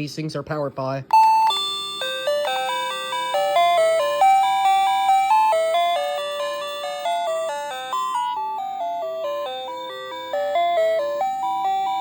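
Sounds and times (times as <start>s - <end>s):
electronic doorbell chime tune: 1.1s - 12.0s.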